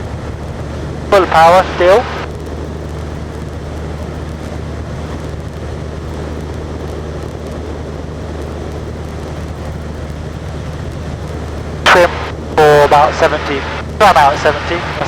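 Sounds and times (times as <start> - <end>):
airplane engine and propeller: 0.0 - 15.0.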